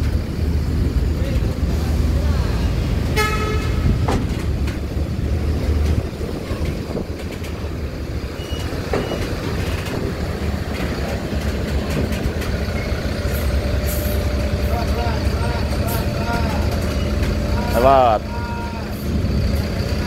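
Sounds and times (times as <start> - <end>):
coach engine rumbling: 0.0 - 20.0.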